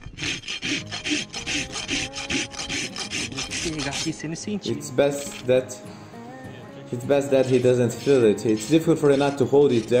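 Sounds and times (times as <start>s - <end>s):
hoof rasp scraping hoof: 0.0s - 5.6s, 7.3s - 10.0s.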